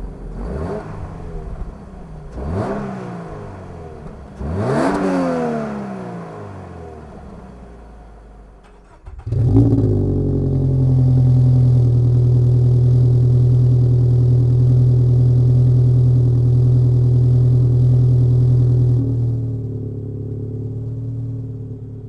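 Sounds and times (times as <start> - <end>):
car engine starting and idling: 0.0 - 22.0.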